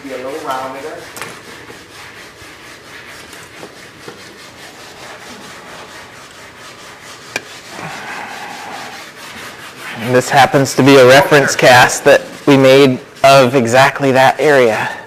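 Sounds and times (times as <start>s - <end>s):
rasp scraping foam: 0.0s - 15.0s.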